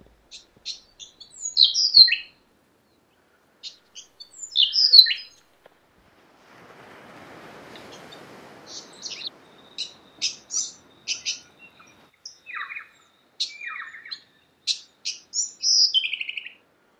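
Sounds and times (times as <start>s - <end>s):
lower falling bird calls: 0.0s - 5.8s, 7.6s - 16.6s
songbirds chirping and trilling: 0.2s - 5.5s, 7.7s - 16.6s.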